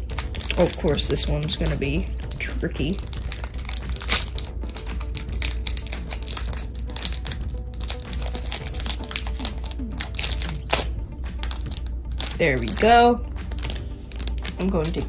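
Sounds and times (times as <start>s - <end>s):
foil wrapper crinkling: 0.0s - 15.0s.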